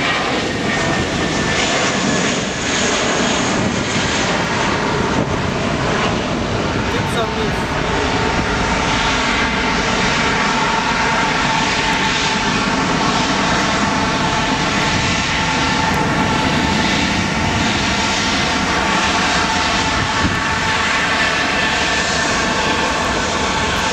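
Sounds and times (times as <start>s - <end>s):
jet engines at takeoff power: 0.0s - 23.9s.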